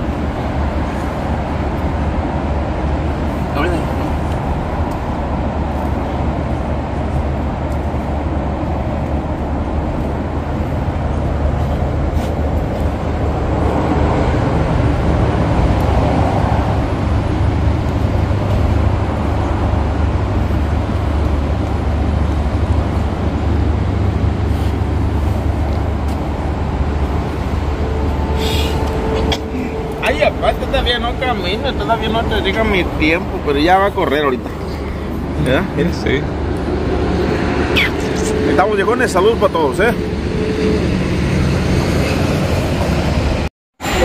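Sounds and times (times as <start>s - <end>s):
car road and engine rumble: 0.0s - 44.0s.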